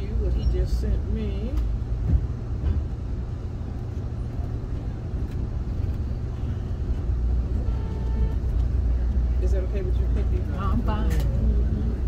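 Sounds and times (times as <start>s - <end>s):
train car low rumble: 0.0s - 12.0s.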